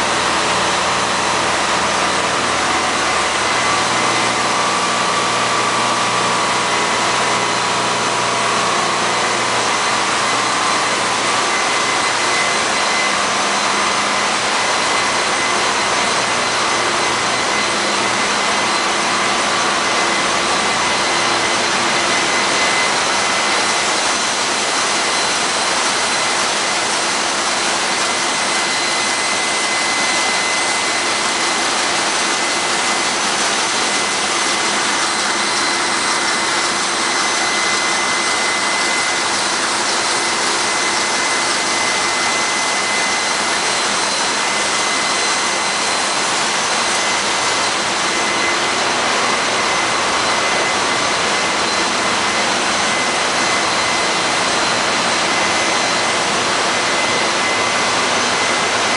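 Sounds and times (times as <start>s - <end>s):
engine room machinery roar: 0.0s - 58.9s
high whine: 0.0s - 58.9s.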